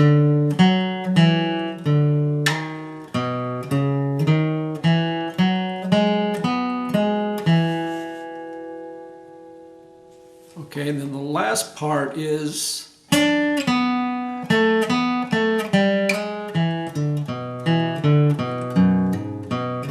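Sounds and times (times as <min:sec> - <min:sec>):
acoustic guitar flatpicked lead line: 0:00.0 - 0:19.9.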